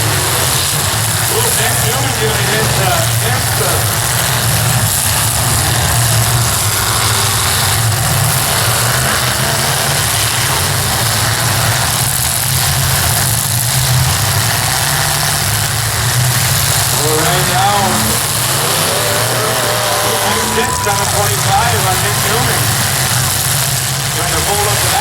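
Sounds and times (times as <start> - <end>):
car engines droning: 0.0 - 25.0.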